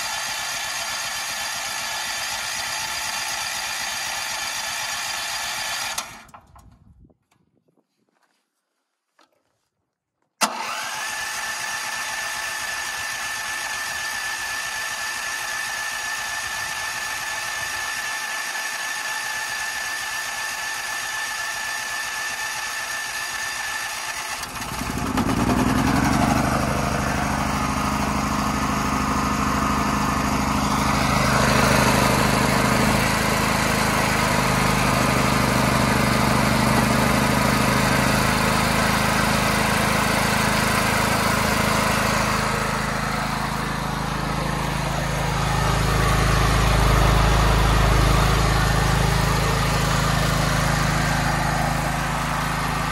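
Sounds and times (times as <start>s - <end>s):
generator engine running: 0.0s - 6.7s, 10.4s - 52.9s.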